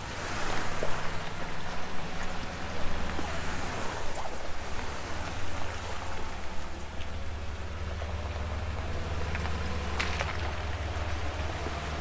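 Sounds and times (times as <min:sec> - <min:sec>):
engine humming: 0:00.0 - 0:12.0
water rushing and splashing: 0:00.0 - 0:12.0.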